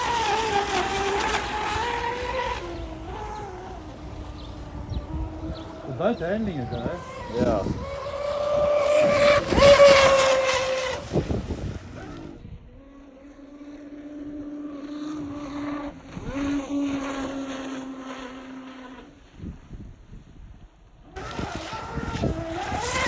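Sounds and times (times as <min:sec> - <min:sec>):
electric motor high whine: 0:00.0 - 0:19.2, 0:21.1 - 0:23.0
lower steady motor whine: 0:00.0 - 0:23.0.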